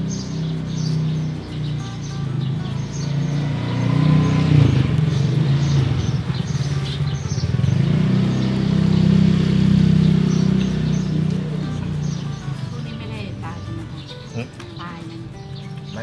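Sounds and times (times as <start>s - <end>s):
low engine hum: 0.0s - 16.0s
small birds chirping: 0.0s - 16.0s.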